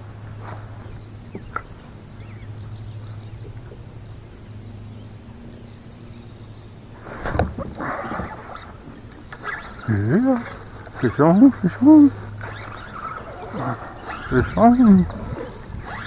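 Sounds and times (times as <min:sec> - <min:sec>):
steady low hum: 0:00.0 - 0:16.0
high bird trills: 0:00.8 - 0:16.0.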